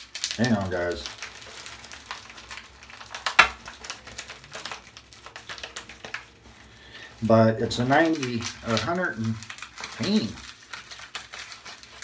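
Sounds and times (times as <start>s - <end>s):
package crinkling and rustling: 0.0s - 12.0s.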